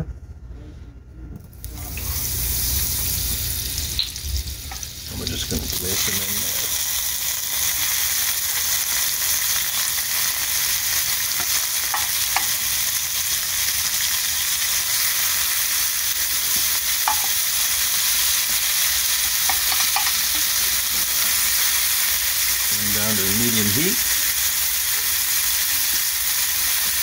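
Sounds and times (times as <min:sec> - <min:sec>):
shrimp sizzling in a pan: 0:01.6 - 0:27.0.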